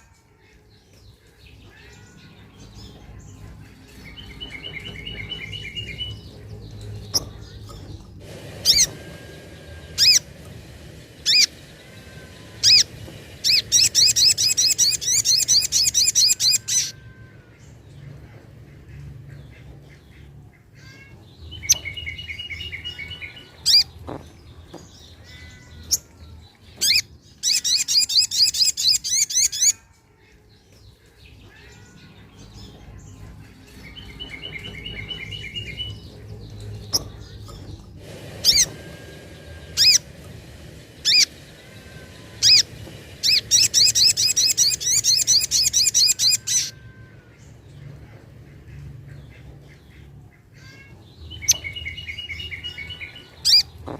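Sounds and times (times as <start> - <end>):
bird calls and trills: 0.0 - 53.9.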